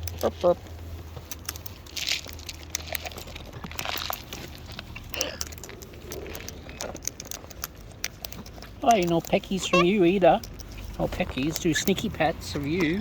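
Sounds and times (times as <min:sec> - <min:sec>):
beaks cracking and crunching food: 0:01.2 - 0:13.0.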